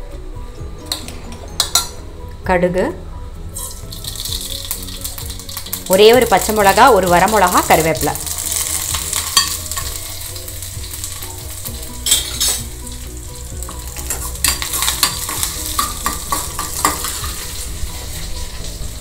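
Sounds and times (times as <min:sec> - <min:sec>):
chillies sizzling in hot oil: 0:03.5 - 0:19.0.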